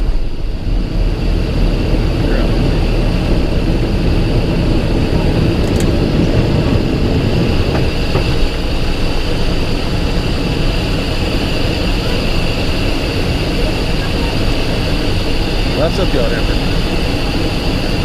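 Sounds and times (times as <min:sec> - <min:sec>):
jet engines rumbling with whine: 0:00.0 - 0:18.0.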